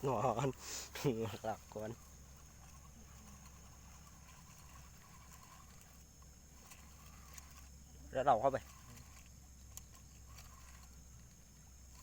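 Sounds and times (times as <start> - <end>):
faint high hiss: 0.0 - 12.0
faint low hum: 0.0 - 12.0.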